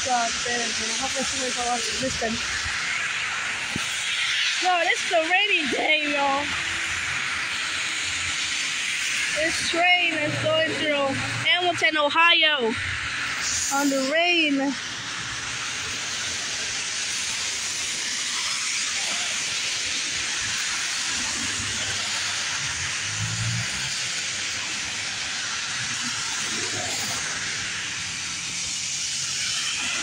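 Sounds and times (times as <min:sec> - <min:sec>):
car tyres swishing through water: 0:00.0 - 0:30.0
heavy rain hiss: 0:00.0 - 0:30.0.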